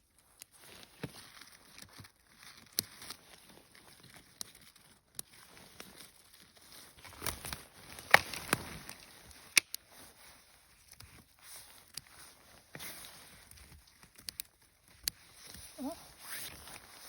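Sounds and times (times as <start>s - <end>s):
twigs snapping: 0.4s - 10.1s, 10.8s - 16.5s.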